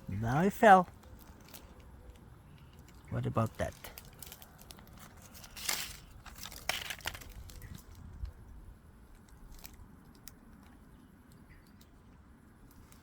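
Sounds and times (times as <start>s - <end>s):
crunching rustles: 0.0s - 13.0s.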